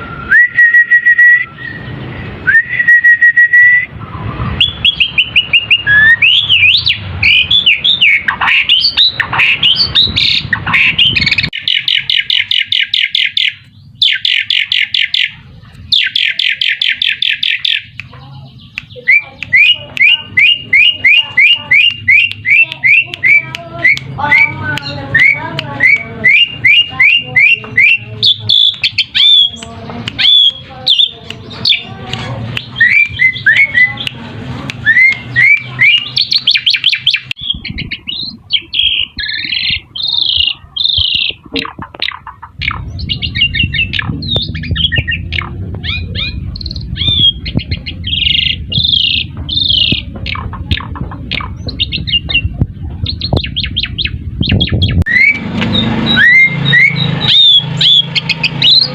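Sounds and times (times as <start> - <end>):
starling rapid chattering: 4.6 - 58.9.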